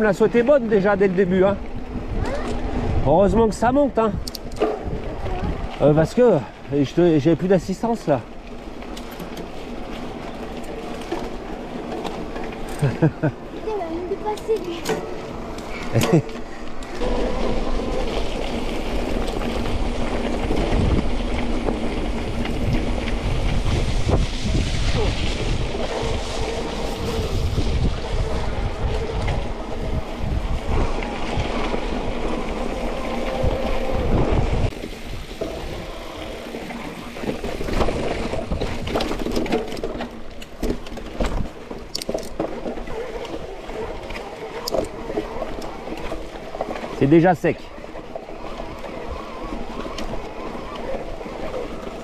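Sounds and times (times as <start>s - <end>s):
bike clicks and rattles: 0.0s - 52.0s
tyres on wet gravel: 0.0s - 52.0s
wind rumbling on microphone: 0.0s - 52.0s.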